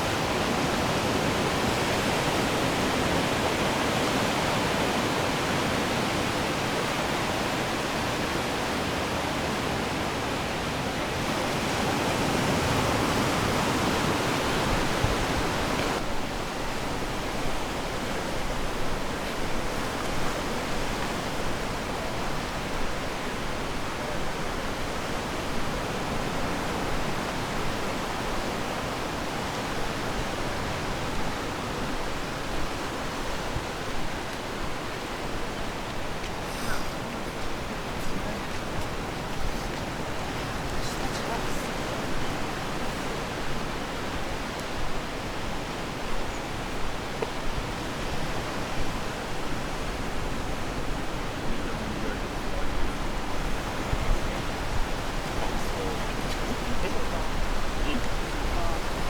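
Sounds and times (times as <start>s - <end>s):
ocean waves washing onto shore: 0.0s - 59.0s.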